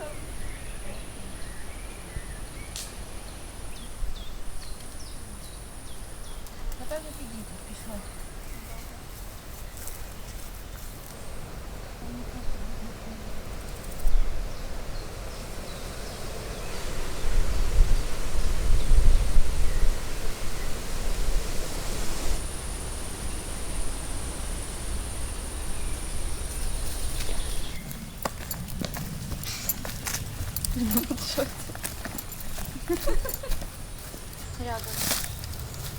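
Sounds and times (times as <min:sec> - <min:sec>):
wind rumbling on microphone: 0:00.0 - 0:35.9.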